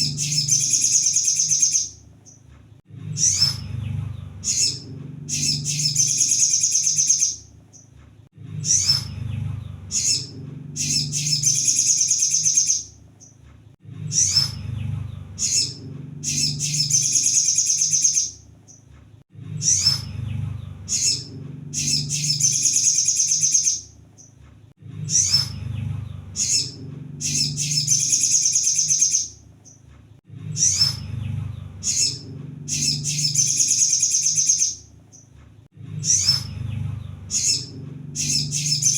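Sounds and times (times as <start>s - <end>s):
sunbird chirps and trill: 0.0s - 2.4s, 3.1s - 7.9s, 8.6s - 13.4s, 14.1s - 18.9s, 19.6s - 24.4s, 25.0s - 29.8s, 30.5s - 35.3s, 36.0s - 38.9s
steady low hum: 0.0s - 38.9s.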